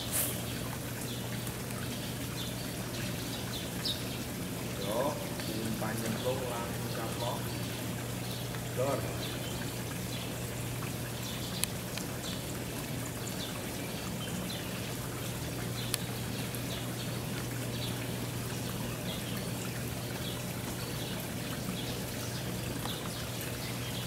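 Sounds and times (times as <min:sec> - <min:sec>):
flowing river water: 0:00.0 - 0:24.0.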